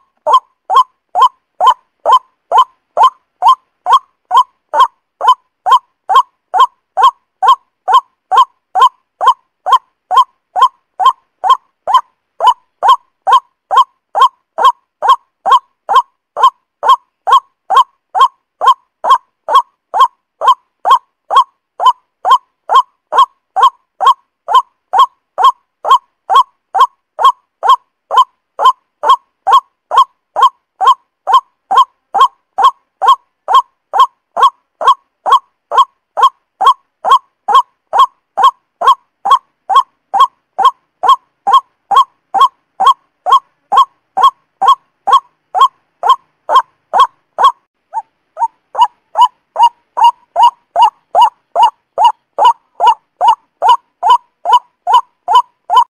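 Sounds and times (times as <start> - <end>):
repeated short bird call: 0.0 - 55.9.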